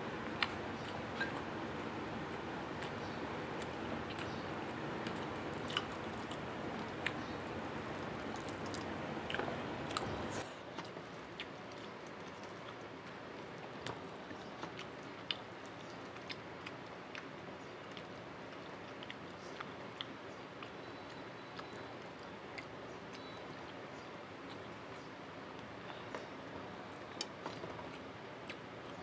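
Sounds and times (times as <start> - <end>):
steady background hiss: 0.0 - 29.0
person chewing food: 0.1 - 23.8, 26.9 - 29.0.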